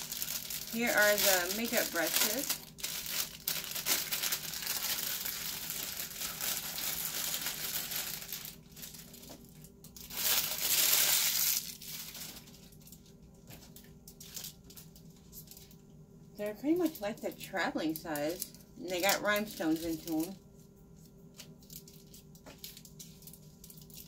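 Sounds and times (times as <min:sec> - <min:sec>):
plastic packaging crinkling: 0:00.0 - 0:15.8, 0:16.4 - 0:24.0.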